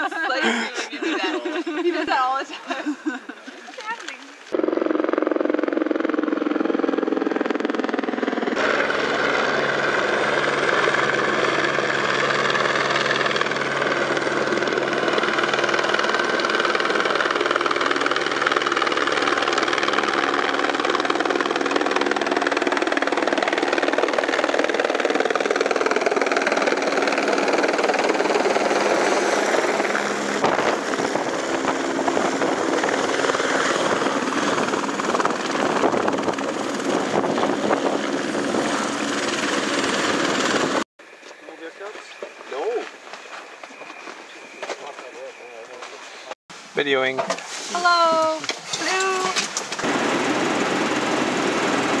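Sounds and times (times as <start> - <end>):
helicopter rotor and engine: 0.0 - 2.8, 3.7 - 46.4, 47.8 - 52.0.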